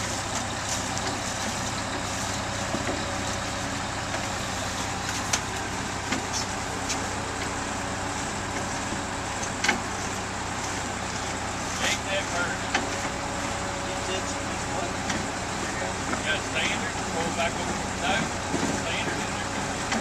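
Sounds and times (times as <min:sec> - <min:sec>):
heavy vehicle engine running: 0:00.0 - 0:20.0.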